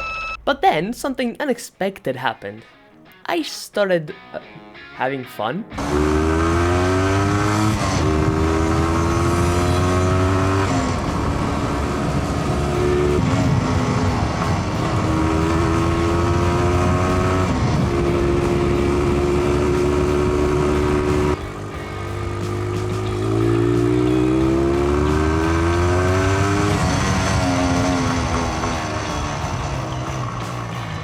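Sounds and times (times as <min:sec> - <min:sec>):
motorcycle engine accelerating: 0:05.8 - 0:31.0.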